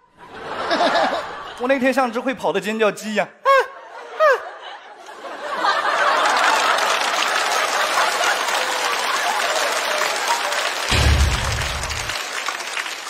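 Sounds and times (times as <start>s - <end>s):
audience laughing and applauding: 0.2s - 1.6s, 3.6s - 13.0s.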